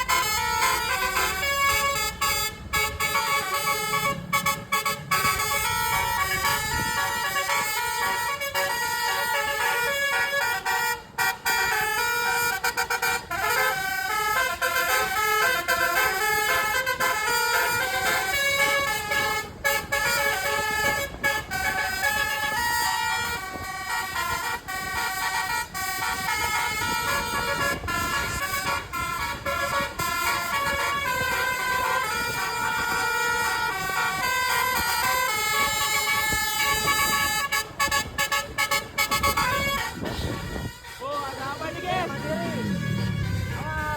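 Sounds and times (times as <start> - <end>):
bus air horns playing melody: 0.0 - 43.9.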